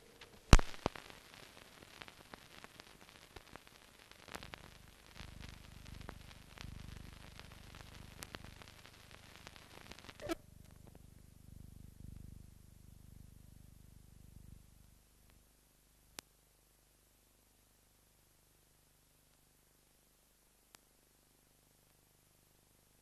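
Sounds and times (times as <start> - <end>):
faint low hum: 4.0 - 23.0.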